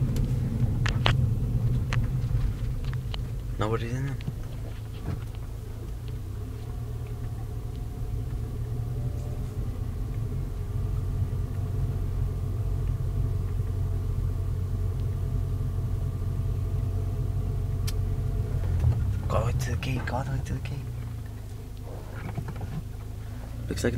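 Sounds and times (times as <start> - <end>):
engine and road rumble: 0.0 - 23.9.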